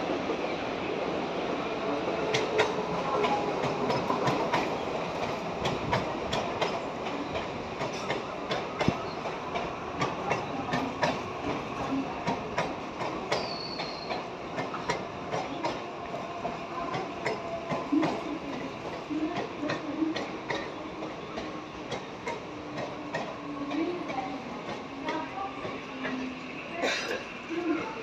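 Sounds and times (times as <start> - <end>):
train wheels clicking over rails: 2.0 - 28.0.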